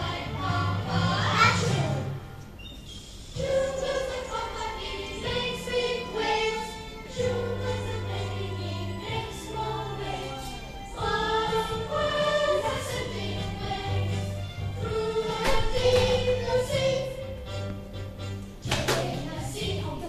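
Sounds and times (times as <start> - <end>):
children singing: 0.0 - 2.1, 3.4 - 17.4, 18.7 - 20.0
instrumental accompaniment: 3.2 - 20.0.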